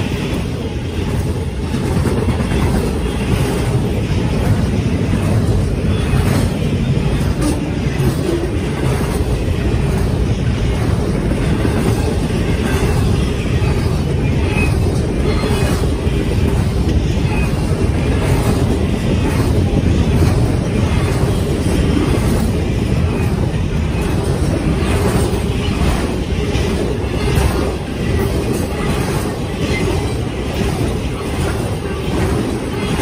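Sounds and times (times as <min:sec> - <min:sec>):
steel wheels rumbling on rail: 0:00.0 - 0:33.0
wheels clicking over rail joints: 0:00.0 - 0:33.0.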